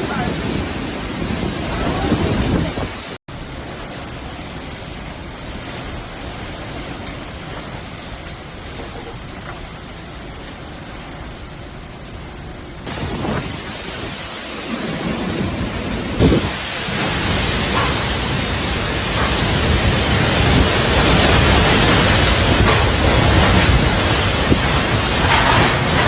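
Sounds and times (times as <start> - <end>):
heavy wind and rain: 0.0 - 26.0.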